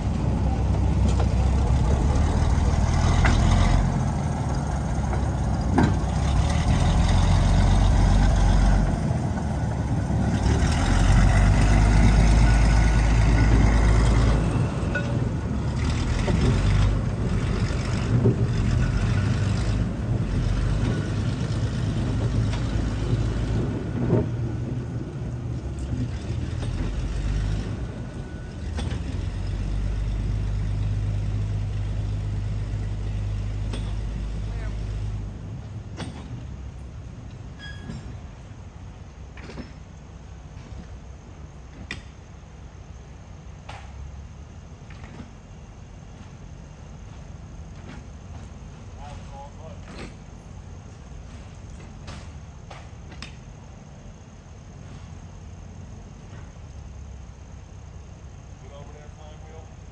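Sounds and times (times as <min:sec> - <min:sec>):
heavy low engine drone: 0:00.0 - 0:59.9
wheels rumbling on rail: 0:00.0 - 0:59.9.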